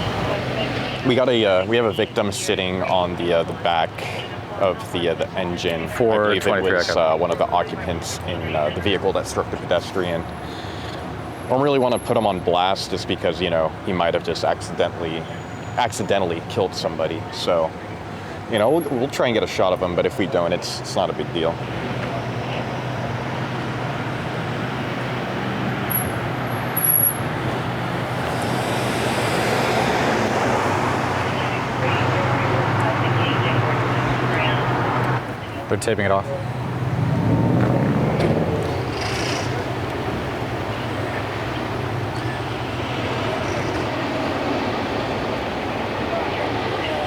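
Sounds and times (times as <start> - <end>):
outdoor noise: 0.0 - 47.0
road traffic: 0.0 - 47.0
vehicle engines idling: 0.0 - 47.0.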